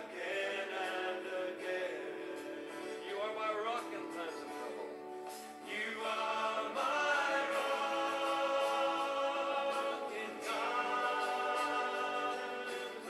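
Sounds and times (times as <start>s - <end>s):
voices singing slow music: 0.0s - 13.0s.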